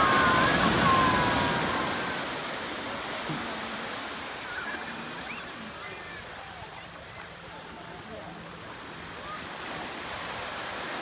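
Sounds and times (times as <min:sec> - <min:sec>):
ocean surf washing on shore: 0:00.0 - 0:11.0.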